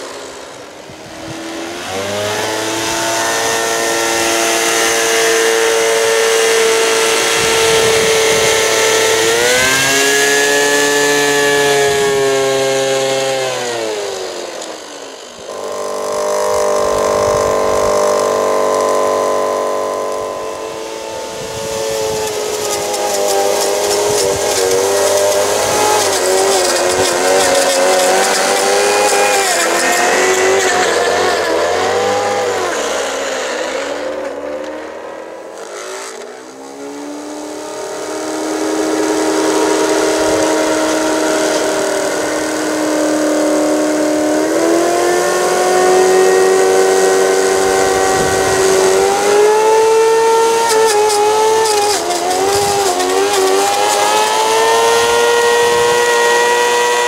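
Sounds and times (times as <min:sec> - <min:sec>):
plough cutting through snow: 0:00.0 - 0:57.0
small electric motors whining: 0:00.0 - 0:57.0.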